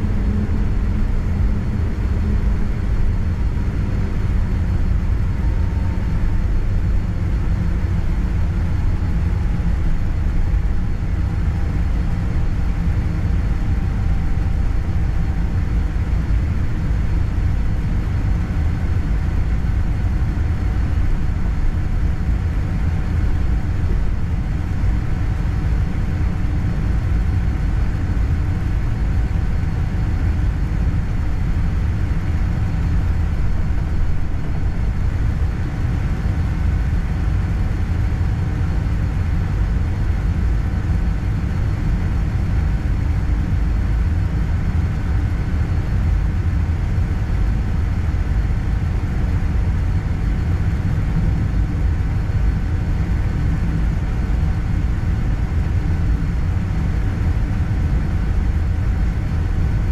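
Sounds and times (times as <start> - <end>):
airliner cabin engine rumble: 0.0 - 59.9
faint steady whine: 0.0 - 59.9.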